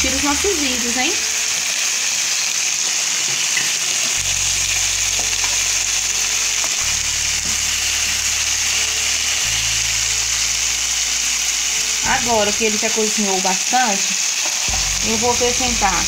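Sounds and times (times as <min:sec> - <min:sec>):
low background music notes: 0:00.0 - 0:02.1, 0:03.3 - 0:13.4, 0:14.7 - 0:16.0
fish sizzling in hot oil: 0:00.0 - 0:16.0.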